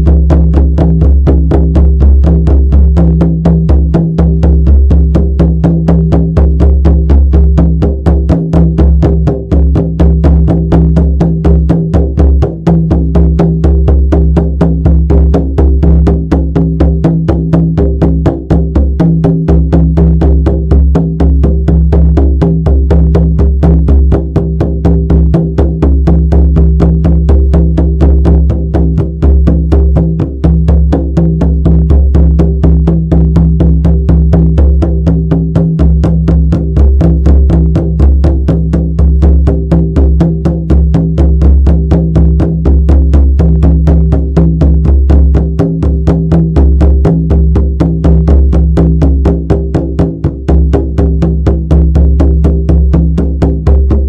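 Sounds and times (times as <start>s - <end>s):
frame drum beating: 0.0s - 54.0s.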